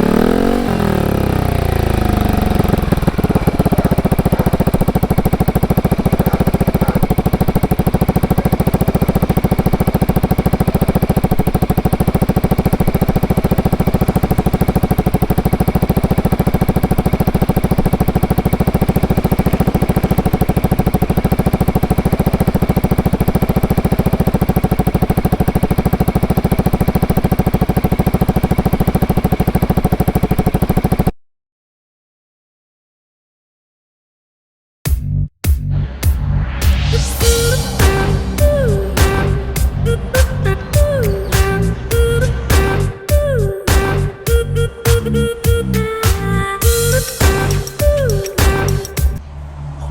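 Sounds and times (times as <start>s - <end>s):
scooter engine idling: 0.0s - 31.1s, 37.0s - 49.9s.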